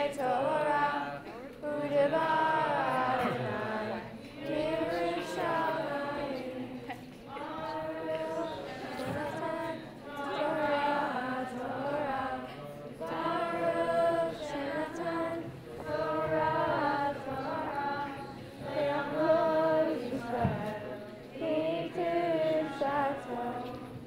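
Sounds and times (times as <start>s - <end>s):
children singing a prayer: 0.0s - 24.0s.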